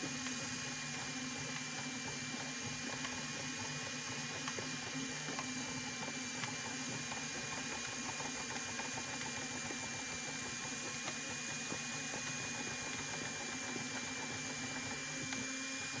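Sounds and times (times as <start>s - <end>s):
printer motors humming with whine: 0.0s - 16.0s.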